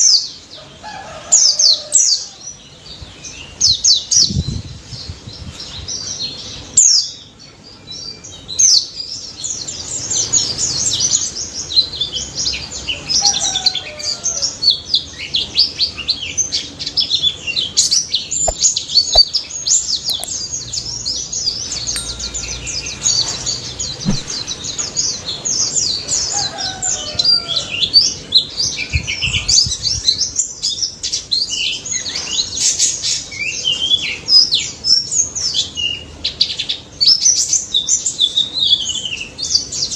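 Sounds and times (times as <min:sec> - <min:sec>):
bird singing high chirps and trills: 0:01.4 - 0:39.9.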